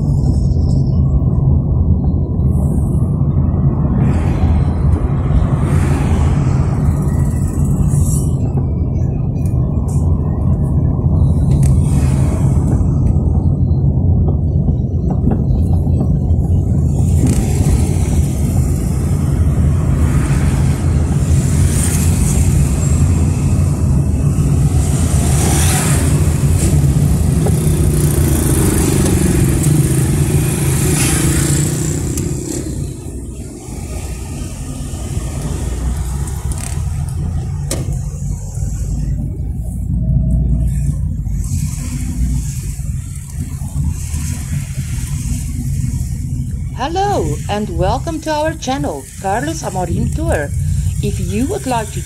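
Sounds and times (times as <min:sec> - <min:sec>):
road rumble: 0:00.0 - 0:52.0.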